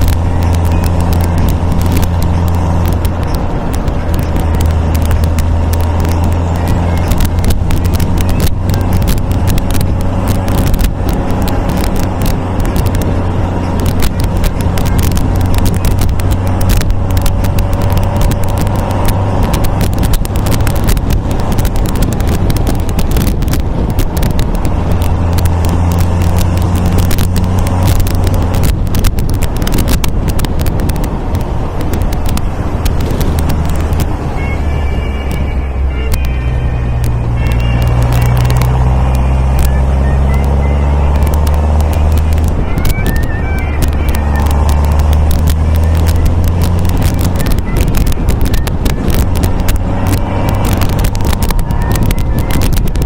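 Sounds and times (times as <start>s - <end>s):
car engine at cruising speed: 0.0s - 53.0s
wind buffeting microphone: 0.0s - 53.0s.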